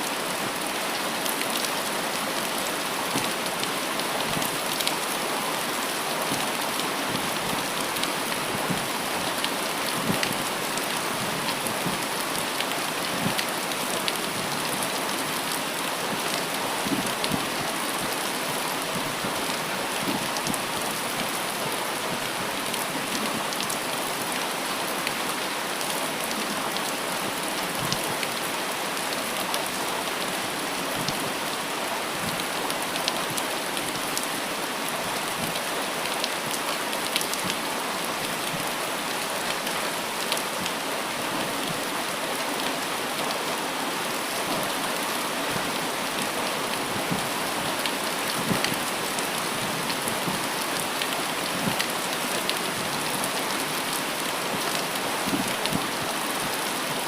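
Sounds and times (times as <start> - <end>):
steady rain hiss: 0.0 - 57.0
raindrops tapping and splashing: 0.1 - 57.0.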